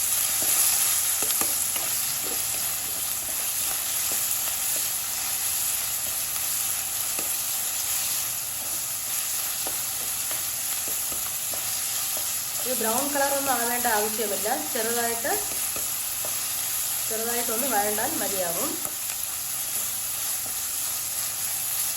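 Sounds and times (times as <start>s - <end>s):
onions sizzling in hot oil: 0.0s - 21.9s.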